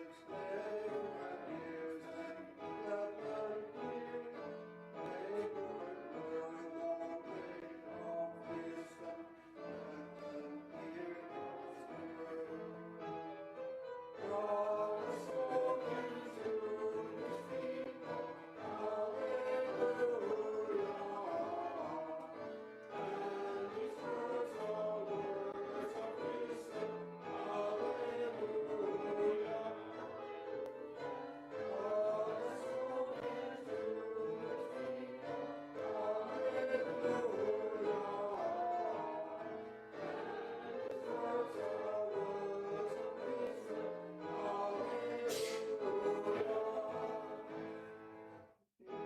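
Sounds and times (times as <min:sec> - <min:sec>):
choir singing a hymn: 0:00.0 - 0:48.3.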